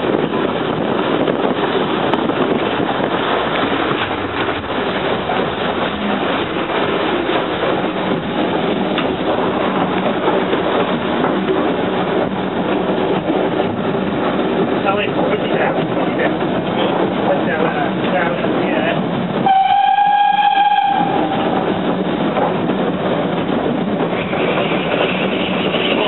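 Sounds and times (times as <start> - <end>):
steam train running: 0.0 - 26.0.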